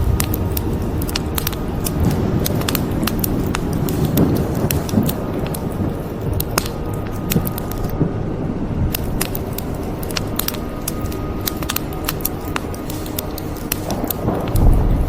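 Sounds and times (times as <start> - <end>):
wood fire crackling and popping: 0.0 - 8.2, 8.8 - 15.0
low rumble of fire: 0.0 - 15.0.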